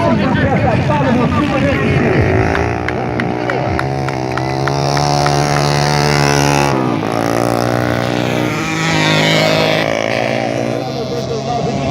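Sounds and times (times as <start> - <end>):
racing motorcycle engines revving: 0.0 - 11.9.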